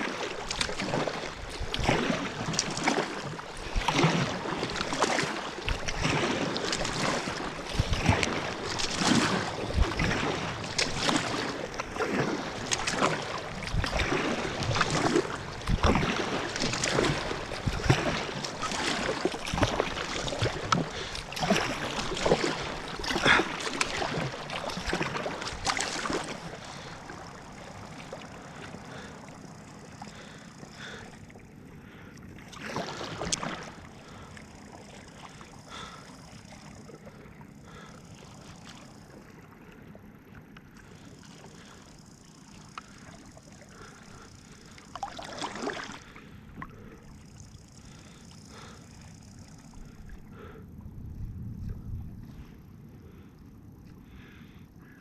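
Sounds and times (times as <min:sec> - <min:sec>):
kayak paddle splashing: 0:00.0 - 0:50.7
water sloshing against hull: 0:00.0 - 0:55.0.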